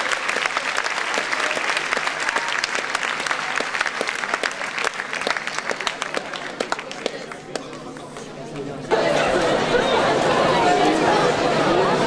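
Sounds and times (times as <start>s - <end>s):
audience applause: 0.0s - 11.5s.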